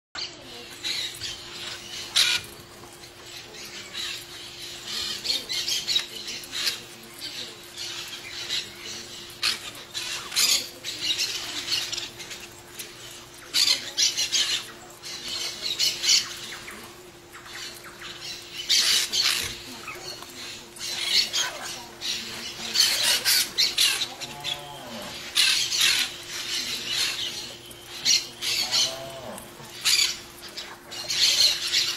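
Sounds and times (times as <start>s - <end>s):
parakeets squawking: 0.2s - 31.9s
chicks begging calls: 0.8s - 31.9s.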